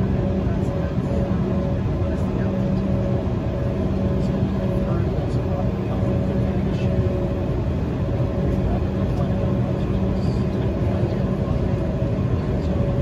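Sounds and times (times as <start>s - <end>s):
airliner cabin hum: 0.0s - 13.0s.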